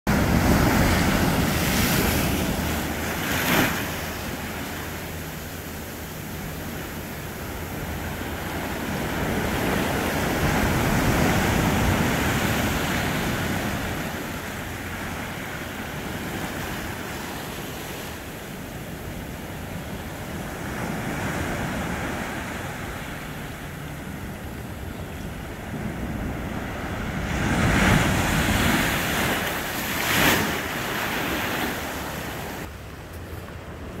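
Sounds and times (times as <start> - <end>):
ocean surf washing over rocks: 0.1 - 32.7.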